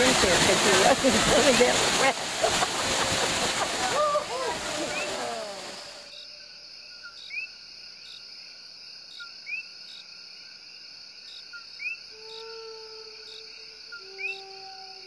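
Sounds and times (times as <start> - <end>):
chorus of frogs and insects: 0.0 - 15.0.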